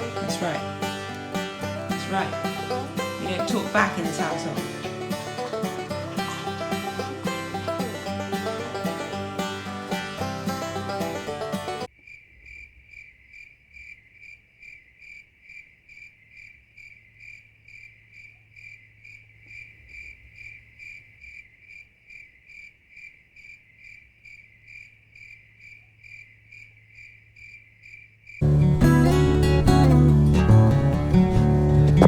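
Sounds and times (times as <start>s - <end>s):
cricket chirping: 0.0s - 28.6s.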